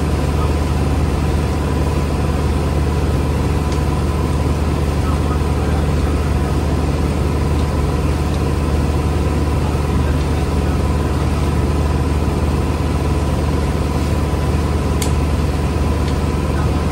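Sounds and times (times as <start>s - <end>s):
motorboat engine droning: 0.0s - 16.9s
water rushing from wake: 0.0s - 16.9s.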